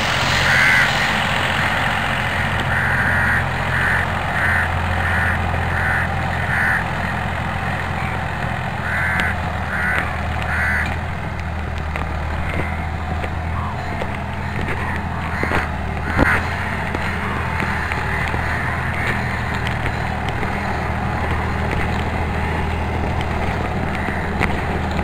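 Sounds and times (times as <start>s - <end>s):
bird calling: 0.0s - 25.0s
tractor engine running: 0.0s - 25.0s.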